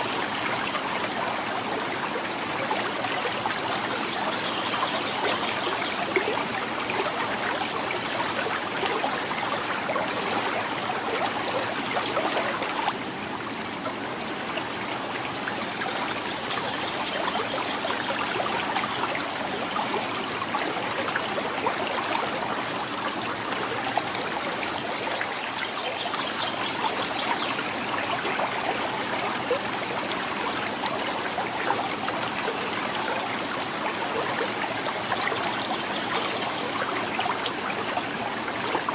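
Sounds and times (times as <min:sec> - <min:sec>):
river gurgling over stones: 0:00.0 - 0:38.9.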